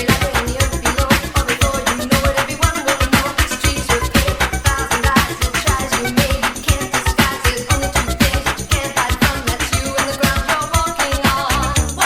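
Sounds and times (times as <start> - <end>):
dance music: 0.0 - 12.0
kick drum beat: 0.0 - 12.0.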